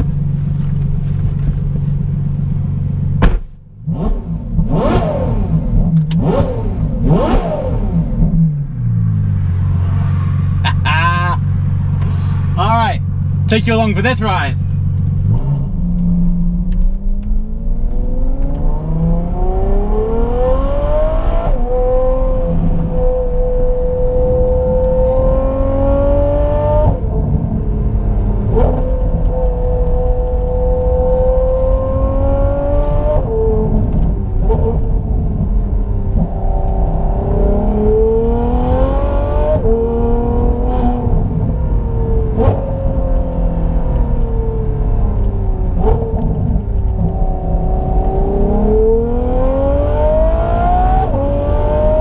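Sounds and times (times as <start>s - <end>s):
car engine accelerating hard: 3.8s - 52.0s.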